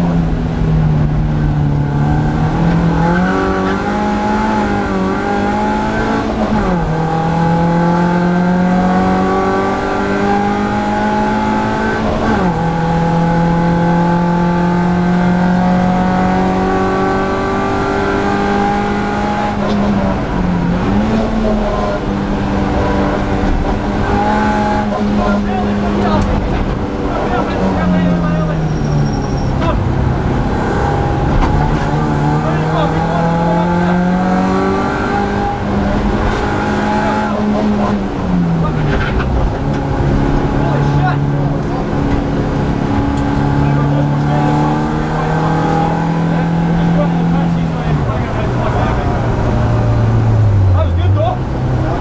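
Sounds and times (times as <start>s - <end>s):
race car engine: 0.0s - 52.0s.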